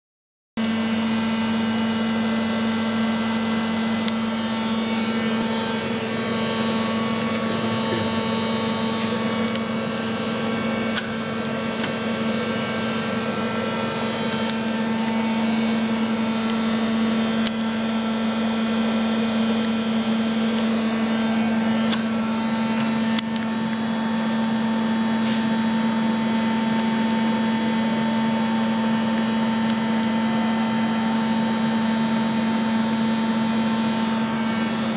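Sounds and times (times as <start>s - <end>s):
lathe machine hum: 0.6s - 34.9s.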